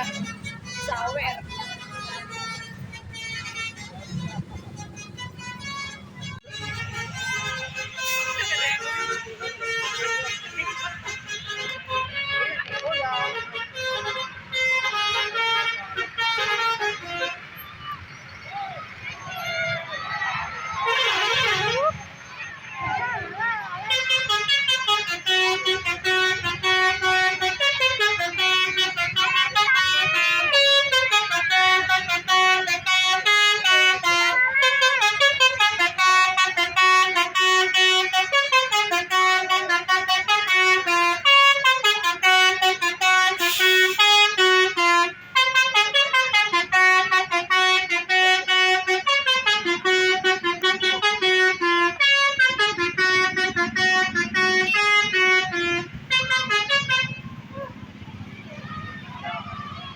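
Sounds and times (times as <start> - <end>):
multi-tone bus horn melody: 0.0 - 58.1.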